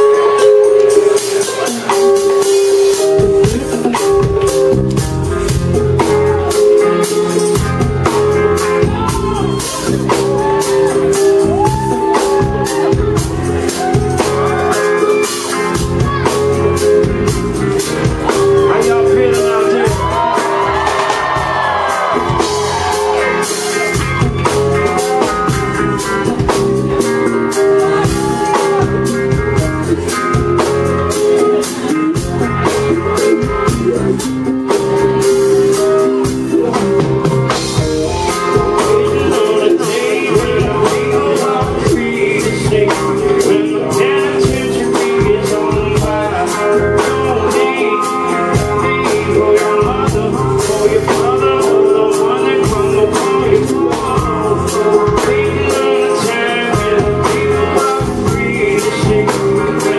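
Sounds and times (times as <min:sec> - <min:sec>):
drum kit playing: 0:00.0 - 0:59.9
electric guitar: 0:00.0 - 0:59.9.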